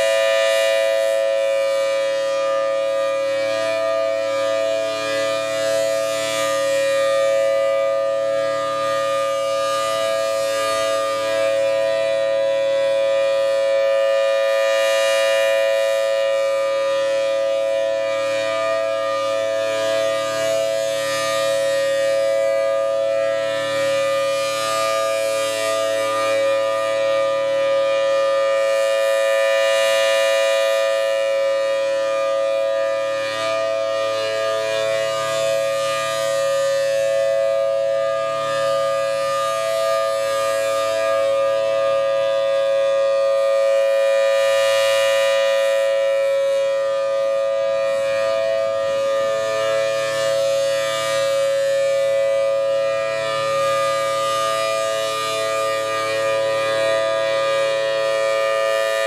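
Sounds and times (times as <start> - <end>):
siren blower running: 0.0 - 59.0
tornado siren wailing: 0.0 - 59.0.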